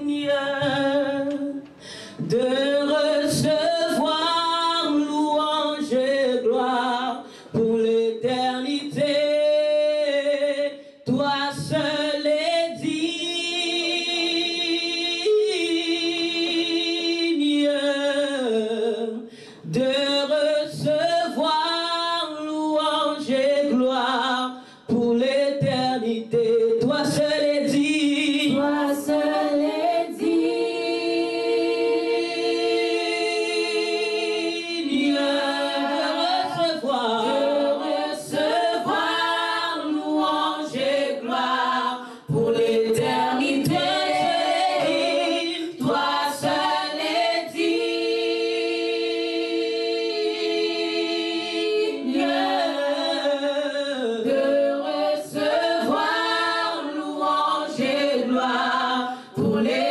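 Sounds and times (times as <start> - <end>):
group singing a cappella: 0.0 - 59.9.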